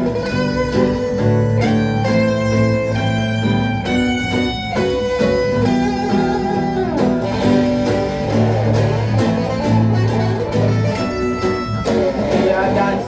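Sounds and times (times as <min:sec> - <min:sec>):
guitar playing a melody: 0:00.0 - 0:13.0
steady guitar accompaniment: 0:00.0 - 0:13.0.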